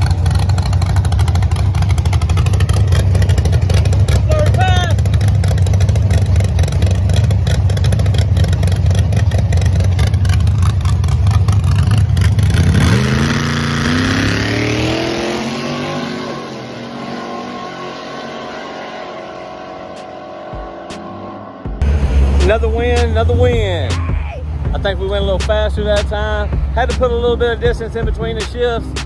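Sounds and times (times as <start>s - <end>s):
pickup engine revving: 0.0s - 29.0s.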